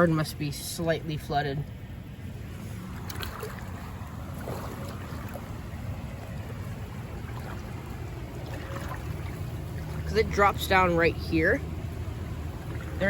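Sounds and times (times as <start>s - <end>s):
creek water rushing: 2.1s - 13.0s.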